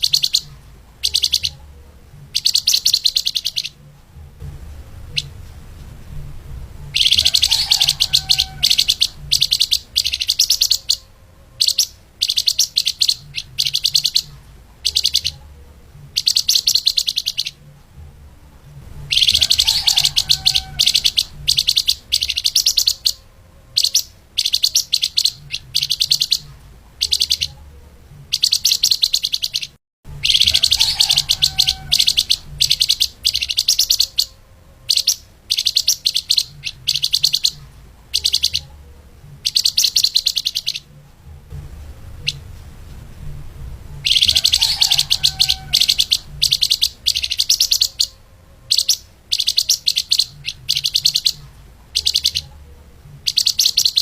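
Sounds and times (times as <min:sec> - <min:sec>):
faint low hum: 0:00.0 - 0:54.0
songbird chirping and twittering: 0:00.0 - 0:54.0.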